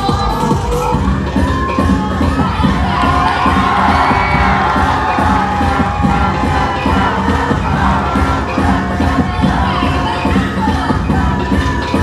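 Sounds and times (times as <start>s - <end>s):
crowd cheering and shouting: 0.0s - 12.0s
loud dance music: 0.0s - 12.0s.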